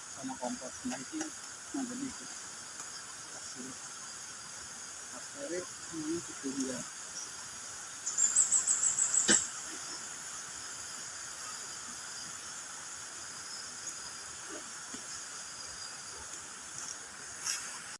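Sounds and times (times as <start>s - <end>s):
insects chorus: 0.0s - 17.9s
rapid pulsing insect call: 0.0s - 17.9s.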